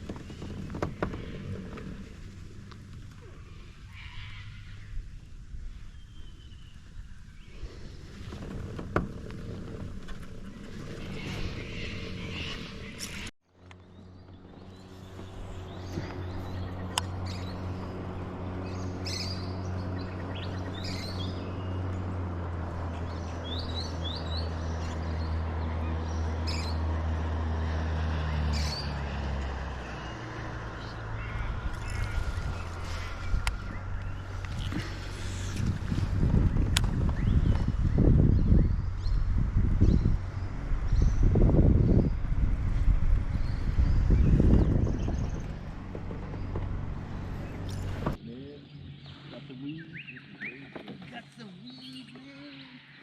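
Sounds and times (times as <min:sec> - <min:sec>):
low motor hum: 0:00.0 - 0:53.0
small birds chirping: 0:10.2 - 0:53.0.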